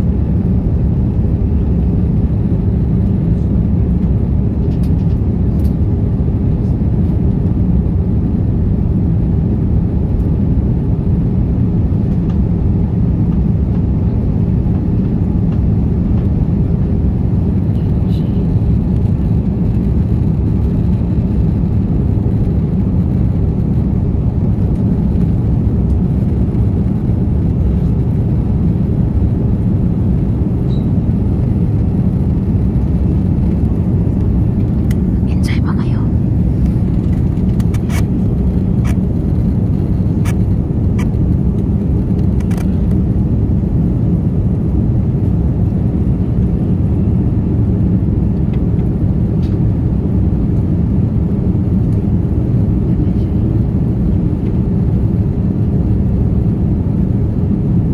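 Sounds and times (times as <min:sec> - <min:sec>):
jet airliner cabin noise: 0:00.0 - 0:57.9.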